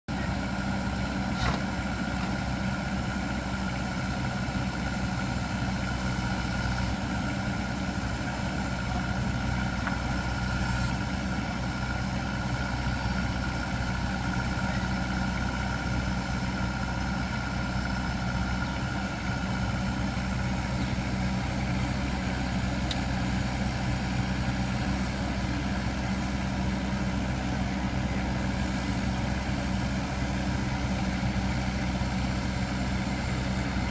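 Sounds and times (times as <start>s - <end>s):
excavator engine running: 0.1s - 33.9s.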